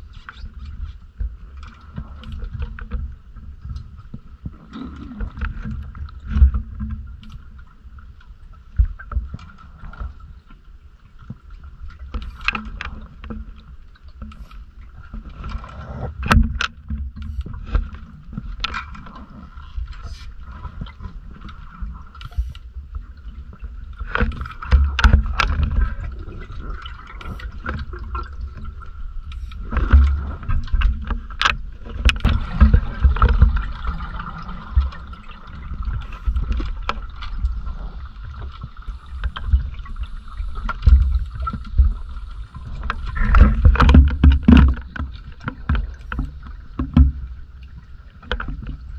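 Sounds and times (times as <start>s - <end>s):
underwater rumbling water: 0.0s - 48.9s
dive gear clicks and knocks: 1.6s - 7.6s, 11.2s - 37.7s, 38.4s - 48.9s.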